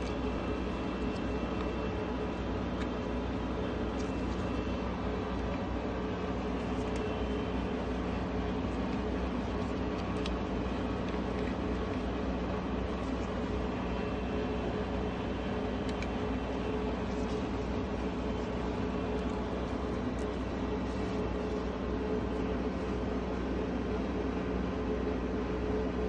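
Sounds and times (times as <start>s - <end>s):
fan humming and rushing air: 0.0s - 26.0s.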